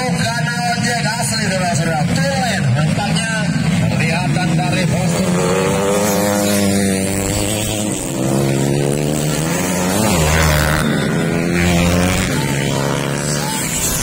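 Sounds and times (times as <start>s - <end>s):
motorcycle engines running hard: 0.0s - 14.0s.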